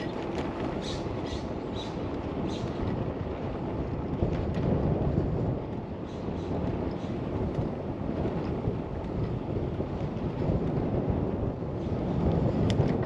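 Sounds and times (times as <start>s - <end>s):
bicycle tyre noise: 0.0s - 13.0s
wind rush: 0.0s - 13.0s.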